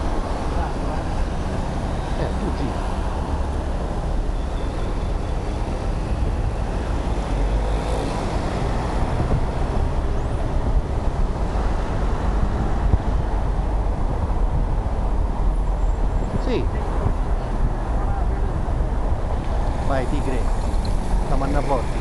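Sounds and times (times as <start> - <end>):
road noise inside moving car: 0.0 - 22.0
wind rumble on microphone: 2.6 - 22.0.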